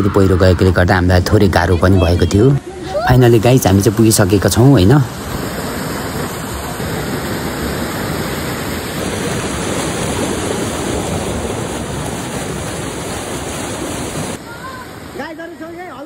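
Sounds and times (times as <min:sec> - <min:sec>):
stream rushing over boulders: 0:01.4 - 0:16.0.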